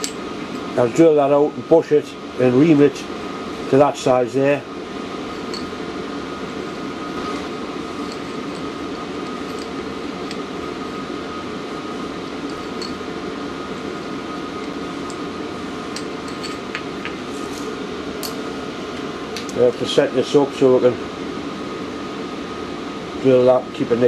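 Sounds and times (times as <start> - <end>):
heater fan whir: 0.0 - 24.0.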